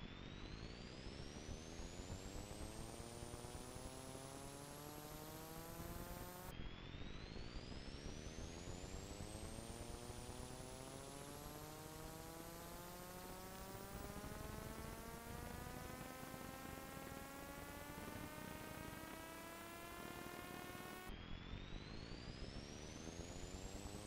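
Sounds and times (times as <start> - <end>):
buzzing hum rising in pitch: 0.0 - 24.0.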